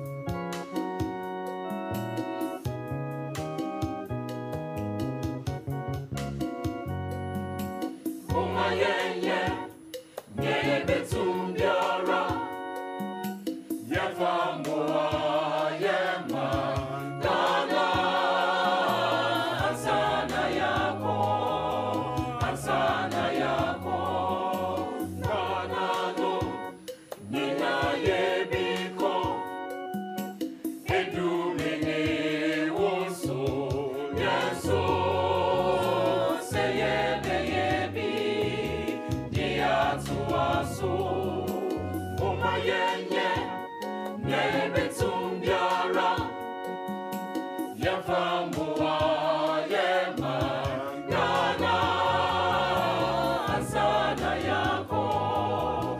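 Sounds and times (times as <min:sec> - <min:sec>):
gospel choir singing: 0:07.8 - 0:55.9.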